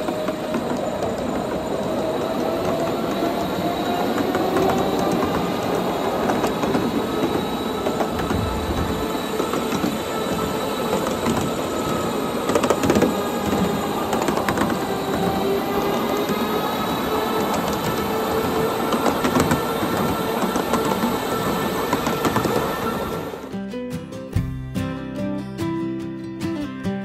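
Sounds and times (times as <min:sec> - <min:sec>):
train wheels clicking over rail joints: 0:00.0 - 0:23.5
electric locomotive whine: 0:00.0 - 0:23.6.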